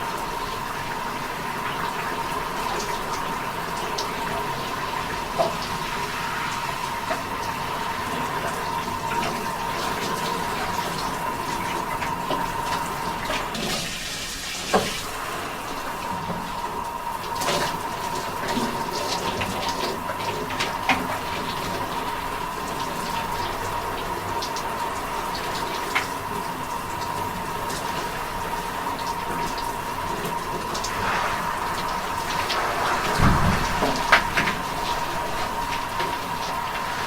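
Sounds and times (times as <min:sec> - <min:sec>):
shower water running: 0:00.0 - 0:37.0
water drips and splashes: 0:00.0 - 0:37.0.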